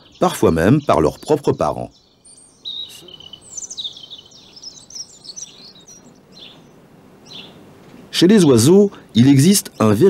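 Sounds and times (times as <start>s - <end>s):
small birds twittering: 0.0s - 10.0s.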